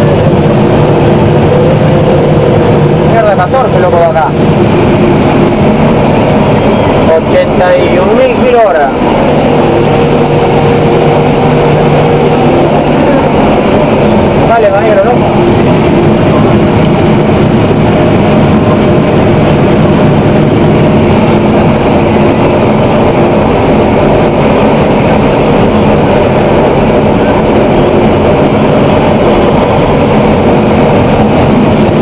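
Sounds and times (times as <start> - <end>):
combine harvester drone: 0.0 - 32.0.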